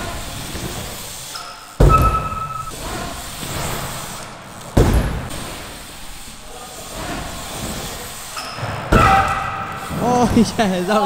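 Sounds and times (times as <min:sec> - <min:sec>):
bike tyres rolling on concrete: 0:00.0 - 0:11.0
bike thumping on concrete: 0:00.3 - 0:06.0, 0:07.0 - 0:10.5.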